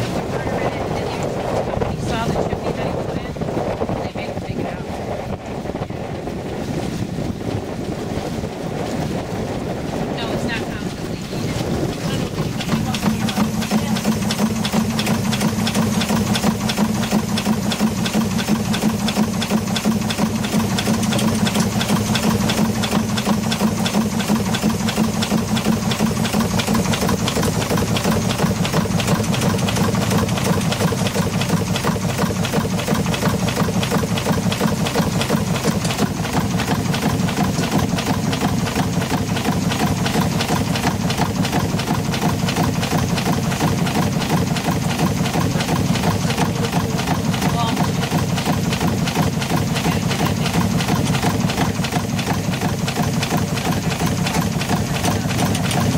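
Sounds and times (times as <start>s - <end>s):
steam engine mechanical clatter: 10.2s - 55.9s.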